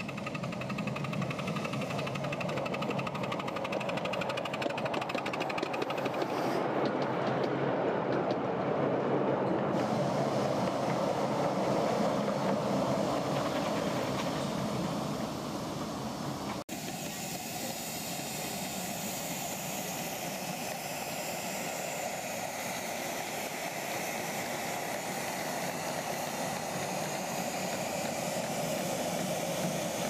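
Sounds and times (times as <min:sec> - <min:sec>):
miniature locomotive hissing: 0:00.0 - 0:07.1, 0:09.7 - 0:30.0.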